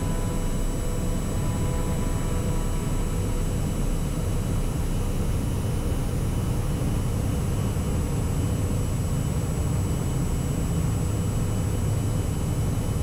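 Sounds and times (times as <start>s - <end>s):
turboprop engine drone: 0.0s - 13.0s.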